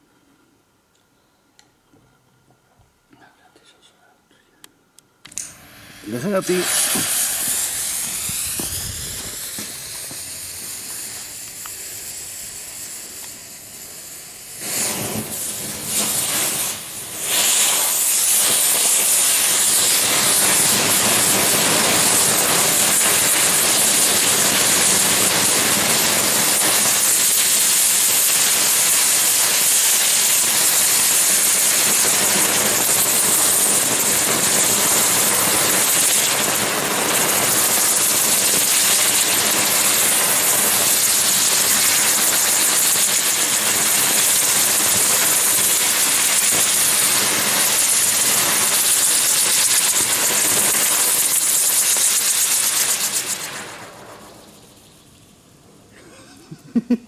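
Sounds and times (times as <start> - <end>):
rising whine of firework jet: 5.3 - 55.5
firework fountains hissing: 5.3 - 56.9.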